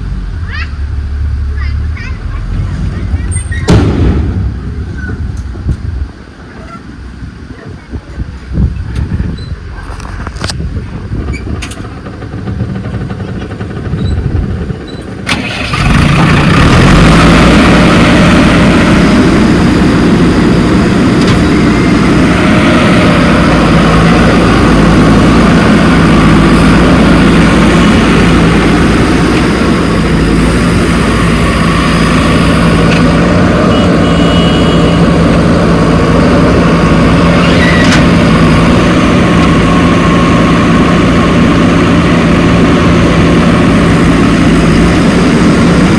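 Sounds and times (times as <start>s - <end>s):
diesel engine humming: 0.0s - 45.9s.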